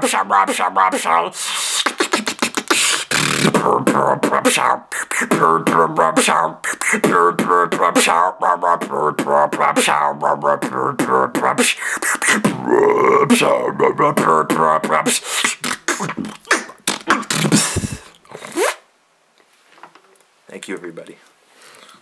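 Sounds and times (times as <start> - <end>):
rising vocal sweep: 0.0 - 18.1
vocal beatboxing: 0.0 - 18.8.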